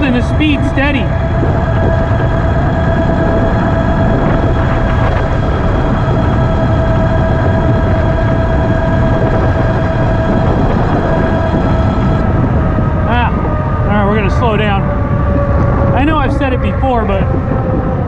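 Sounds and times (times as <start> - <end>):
electric motor whining: 0.0 - 18.0
wind on microphone: 0.0 - 18.0.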